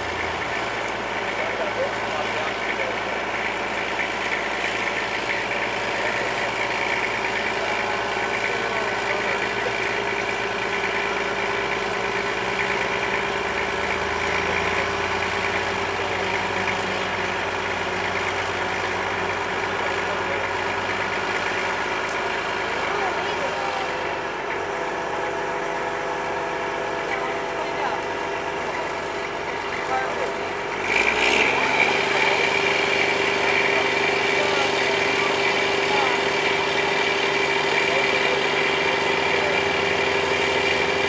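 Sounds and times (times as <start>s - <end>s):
heavy vehicle engine running: 0.0s - 41.0s.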